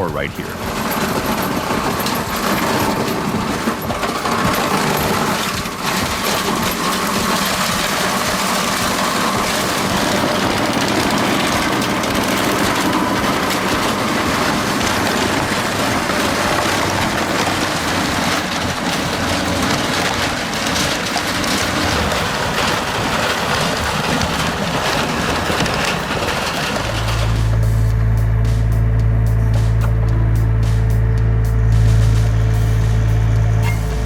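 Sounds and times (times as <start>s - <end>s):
heavy engine rumble: 0.0s - 34.0s.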